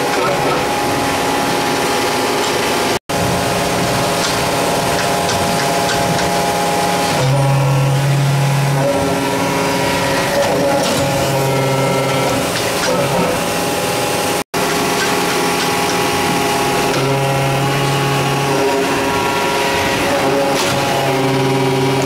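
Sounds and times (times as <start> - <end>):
press machine humming: 0.0 - 22.0.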